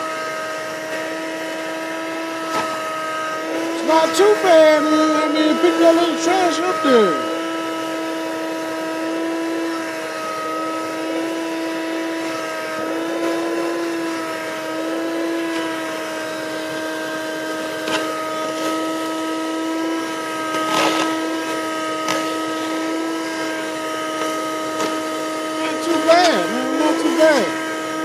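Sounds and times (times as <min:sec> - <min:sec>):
car vacuum whining: 0:00.0 - 0:28.0.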